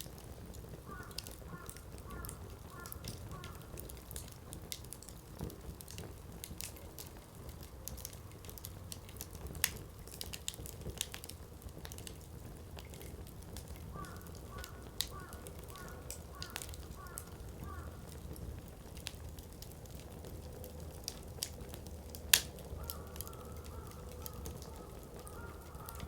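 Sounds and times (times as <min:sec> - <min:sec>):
firewood crackling and popping: 0:00.0 - 0:26.0.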